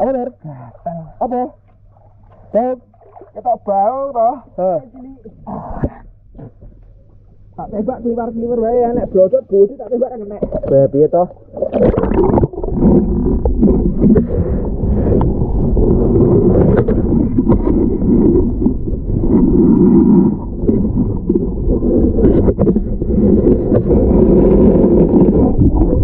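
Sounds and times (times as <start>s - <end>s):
muffled underwater rumble: 0.0s - 26.0s.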